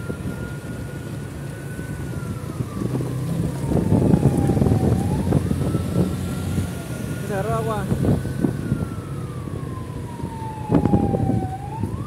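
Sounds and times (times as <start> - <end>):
wind on microphone: 1.7 - 12.0.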